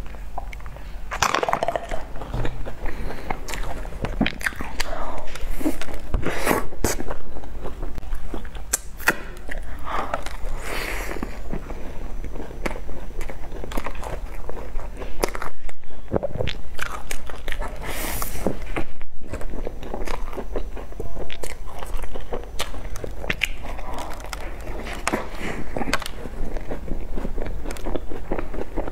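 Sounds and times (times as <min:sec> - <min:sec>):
crunchy pastry crunching: 0:00.0 - 0:28.9
soft chewing: 0:00.0 - 0:28.9.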